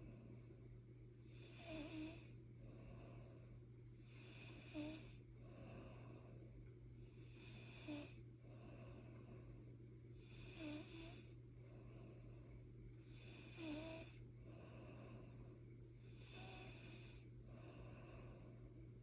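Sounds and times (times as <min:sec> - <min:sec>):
steady low hum: 0:00.0 - 0:19.0
soft snoring: 0:01.2 - 0:18.9.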